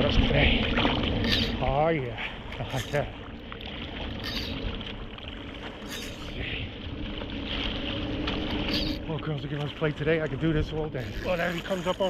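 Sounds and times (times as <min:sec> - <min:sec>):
rushing wind and water: 0:00.0 - 0:12.0.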